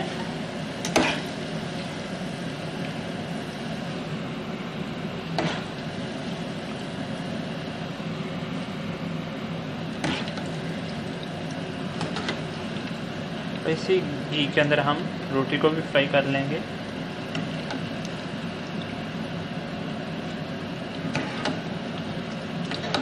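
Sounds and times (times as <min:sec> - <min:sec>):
eggplant sizzling in hot oil: 0:00.0 - 0:23.0.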